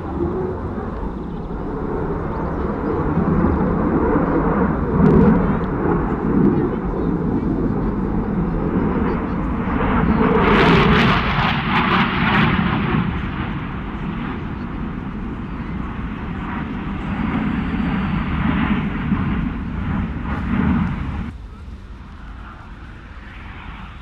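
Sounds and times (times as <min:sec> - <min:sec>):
fighter jet flying: 0:00.0 - 0:24.0.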